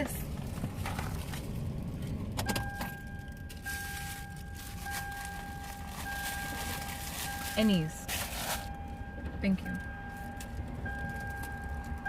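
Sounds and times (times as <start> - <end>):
low rumble in car cabin: 0.0 - 12.0
car warning chime: 2.3 - 12.0.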